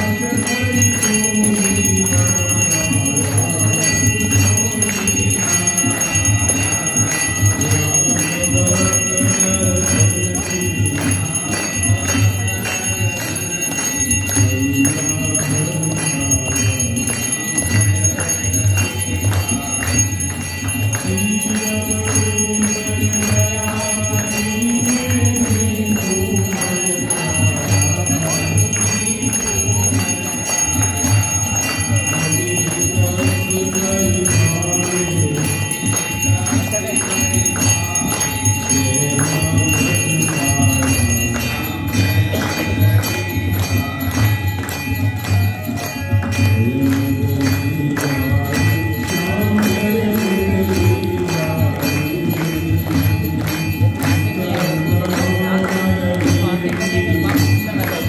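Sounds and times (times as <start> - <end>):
temple bells ringing: 0.0 - 58.0.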